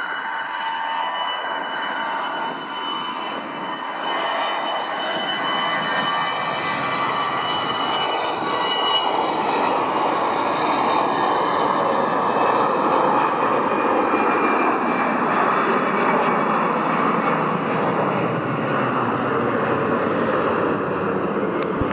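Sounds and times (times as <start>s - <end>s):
jet engines at takeoff: 0.0s - 21.9s.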